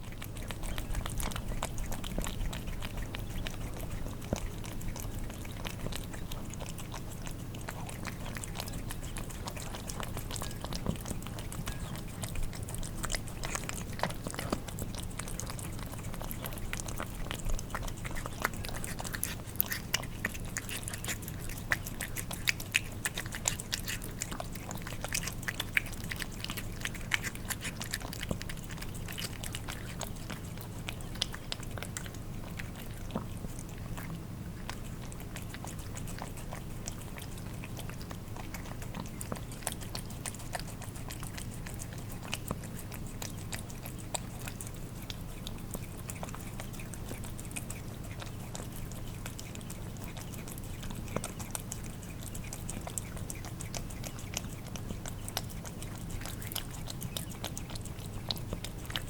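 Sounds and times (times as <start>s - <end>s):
cats licking and chewing food: 0.0s - 59.0s.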